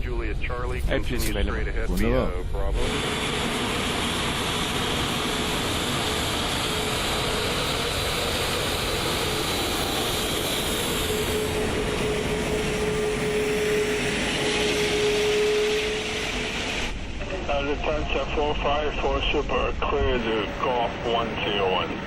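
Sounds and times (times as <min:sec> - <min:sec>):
aircraft engine noise: 0:00.0 - 0:22.0.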